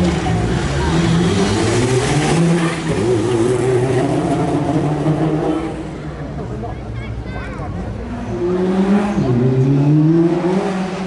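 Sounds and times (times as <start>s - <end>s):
rally car engine revving: 0.0s - 6.8s, 7.7s - 11.0s.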